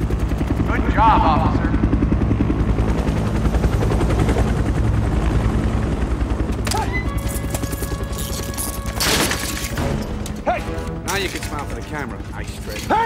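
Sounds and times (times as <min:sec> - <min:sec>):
helicopter rotor beating: 0:00.0 - 0:13.0.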